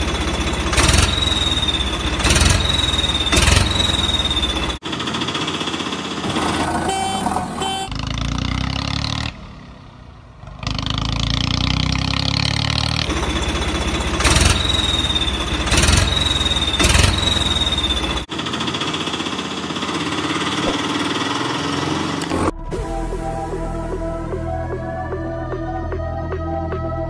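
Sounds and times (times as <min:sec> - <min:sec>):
motor engine running: 0:00.0 - 0:09.0, 0:10.7 - 0:23.5.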